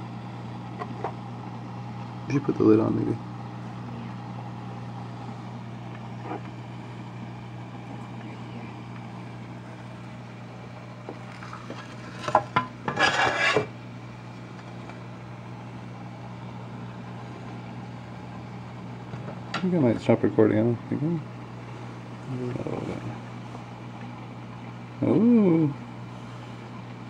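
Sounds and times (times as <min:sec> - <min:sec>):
aquarium equipment humming: 0:00.0 - 0:27.0.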